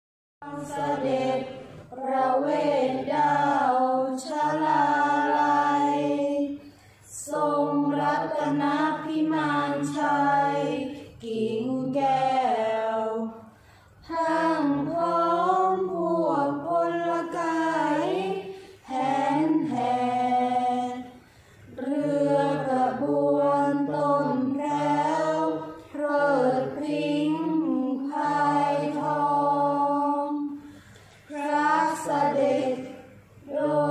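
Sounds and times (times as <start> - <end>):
group of voices chanting in unison: 0.4 - 33.9.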